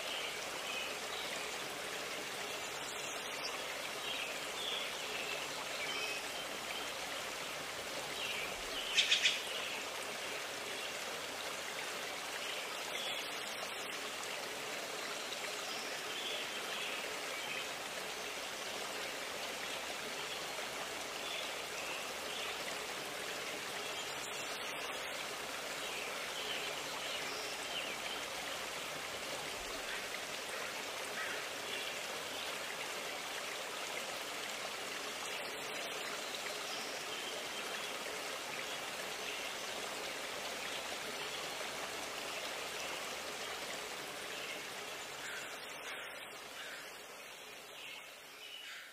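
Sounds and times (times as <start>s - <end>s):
stream running: 0.0s - 48.9s.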